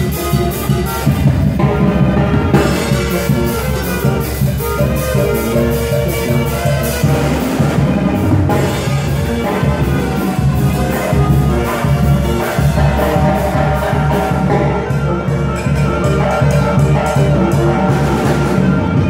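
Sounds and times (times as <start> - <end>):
brass band dance music: 0.0 - 19.0.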